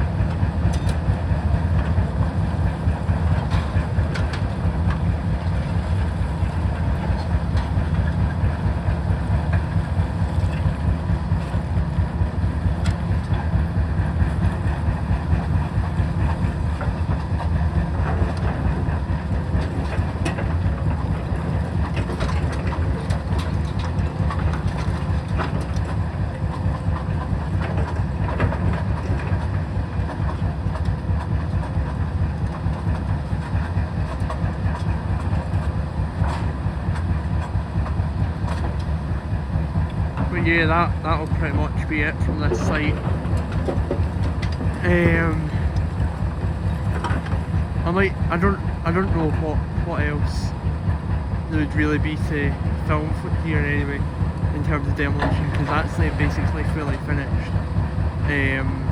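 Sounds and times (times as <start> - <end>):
diesel machinery rumbling: 0.0 - 58.9.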